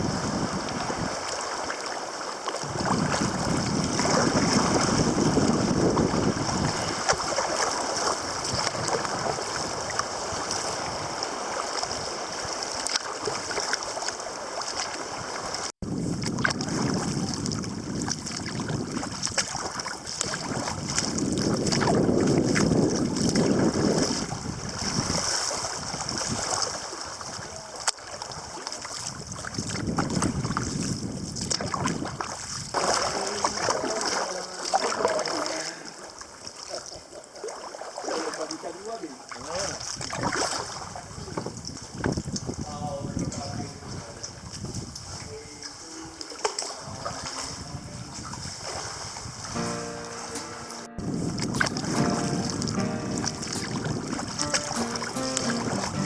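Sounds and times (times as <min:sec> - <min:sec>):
water splashing around kayak: 0:00.0 - 0:49.6.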